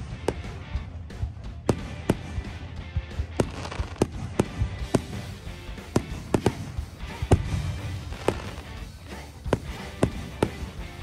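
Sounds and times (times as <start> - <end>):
fireworks bangs: 1.6 - 11.0.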